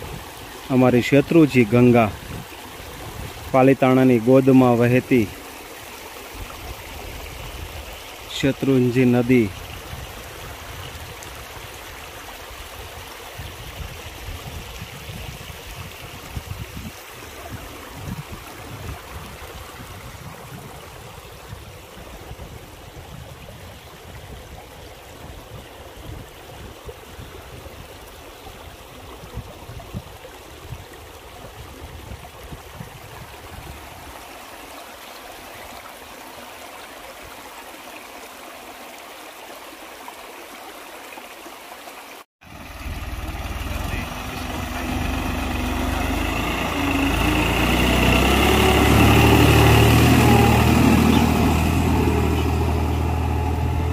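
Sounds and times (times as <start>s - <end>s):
river water flowing over stones: 0.0s - 53.9s.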